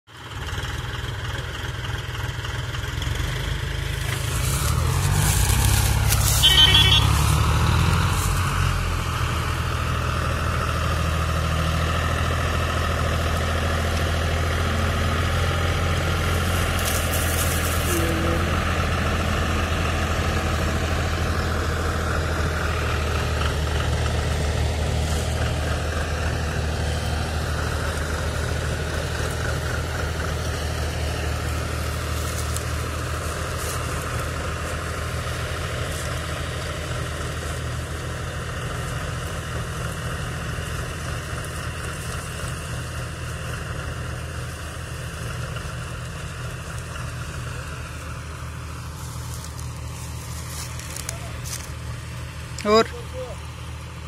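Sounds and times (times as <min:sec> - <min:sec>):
tractor engines droning: 0:00.0 - 0:54.0.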